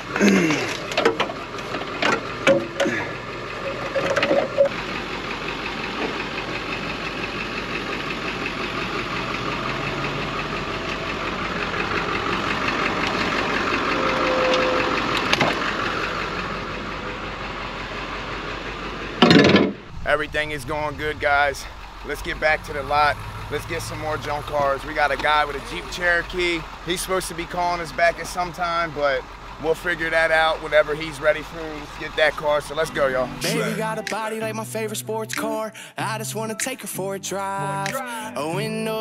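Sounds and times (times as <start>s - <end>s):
truck engine idling: 0.0s - 39.0s.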